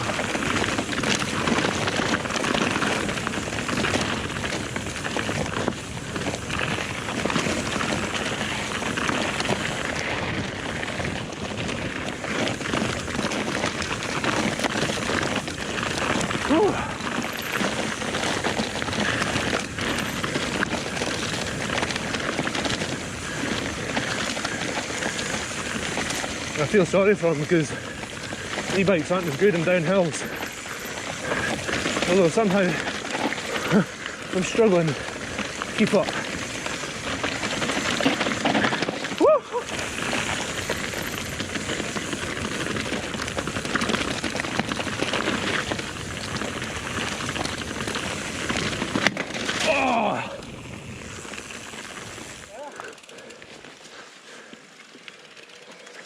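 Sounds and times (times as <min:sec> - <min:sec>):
bike rattling: 0:00.0 - 0:56.0
bike tyres rolling over rough ground: 0:00.0 - 0:56.0.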